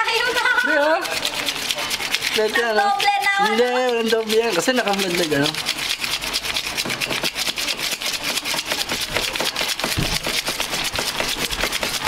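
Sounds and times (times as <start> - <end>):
banknotes flicked while counting: 0.0 - 12.0.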